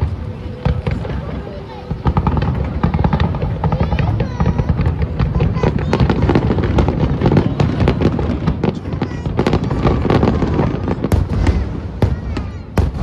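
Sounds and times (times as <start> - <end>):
fireworks bursts and crackles: 0.0 - 13.0
low rumble of booms: 0.0 - 13.0.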